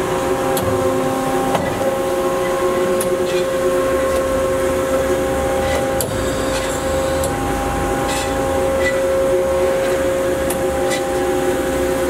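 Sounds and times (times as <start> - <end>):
band saw humming: 0.4 - 12.0.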